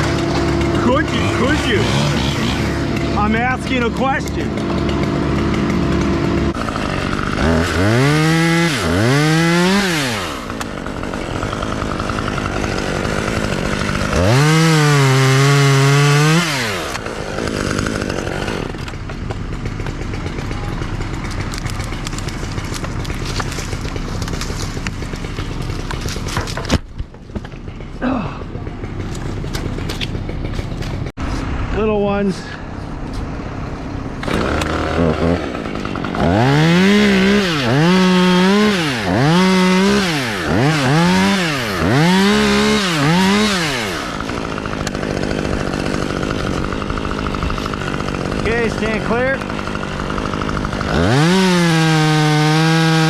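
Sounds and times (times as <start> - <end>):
chainsaw revving: 0.0 - 31.1, 34.0 - 53.0.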